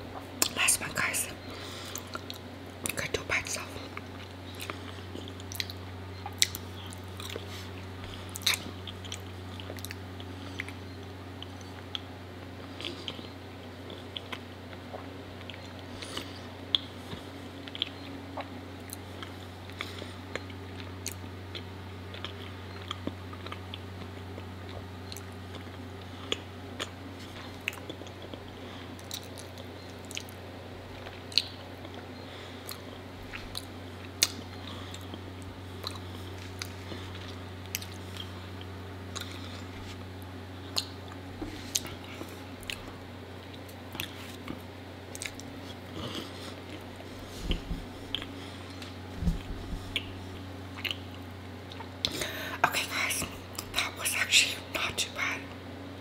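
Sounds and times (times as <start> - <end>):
chewing honeycomb: 0.0 - 52.2.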